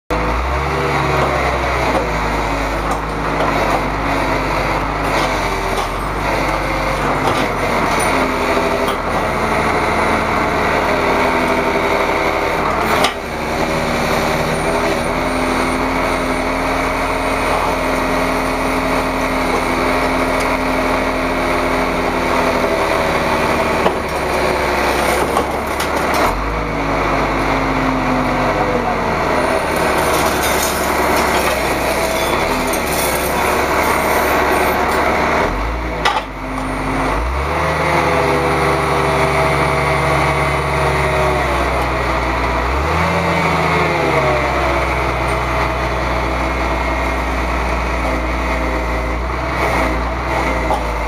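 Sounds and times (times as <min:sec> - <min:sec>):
vehicle engines running: 0:00.1 - 0:51.0.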